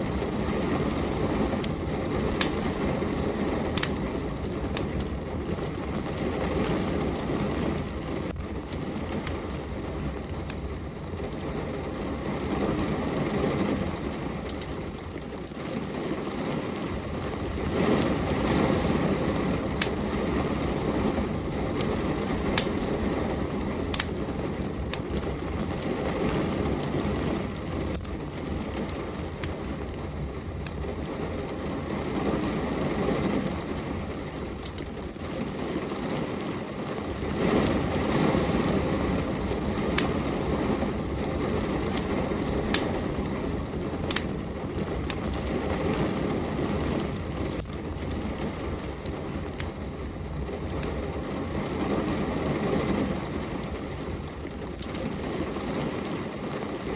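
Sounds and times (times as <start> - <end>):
steady rain: 0.0 - 56.9
wood fire crackling and popping: 0.0 - 56.9.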